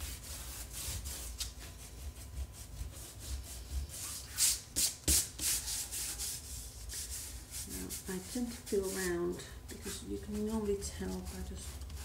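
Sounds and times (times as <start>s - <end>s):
hand rubbing over paper: 0.0s - 12.0s.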